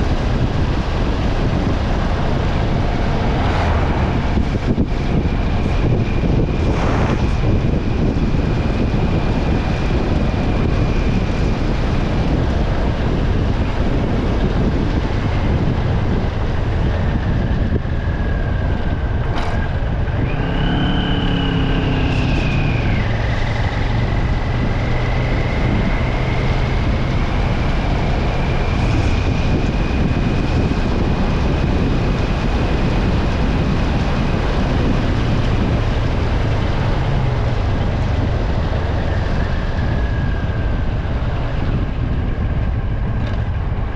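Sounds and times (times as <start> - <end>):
engine hum: 0.0 - 43.9.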